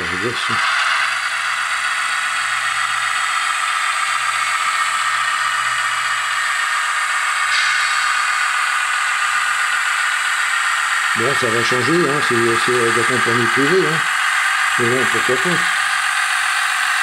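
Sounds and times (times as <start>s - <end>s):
model diesel engine sound from speaker: 0.0s - 17.0s.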